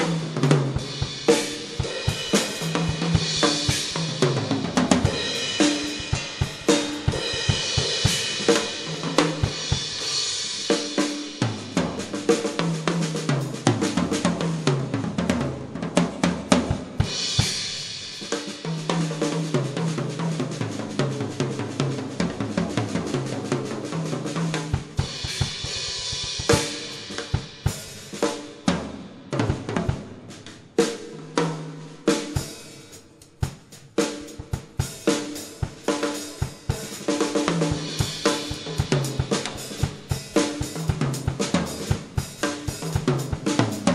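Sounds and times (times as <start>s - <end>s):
drum kit groove: 0.0s - 43.9s.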